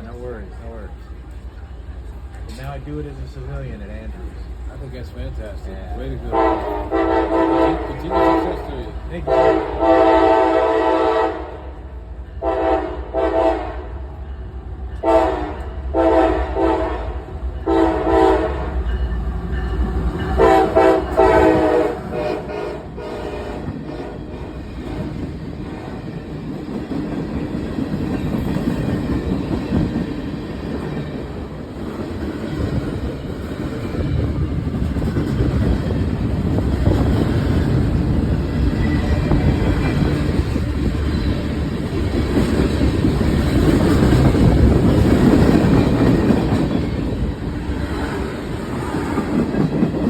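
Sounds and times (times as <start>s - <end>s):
freight train rumble: 0.0s - 50.0s.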